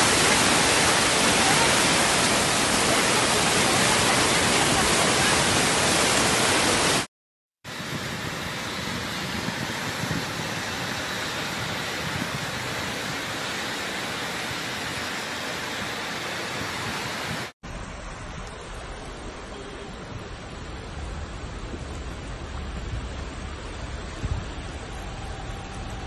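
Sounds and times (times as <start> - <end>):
floodwater rushing: 0.0 - 7.1, 7.7 - 26.0
heavy rain hiss: 0.0 - 7.1, 7.7 - 26.0.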